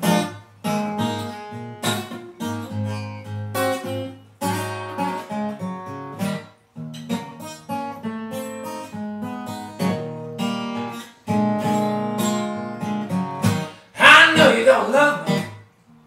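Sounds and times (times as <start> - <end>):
acoustic guitar blues: 0.0 - 16.0.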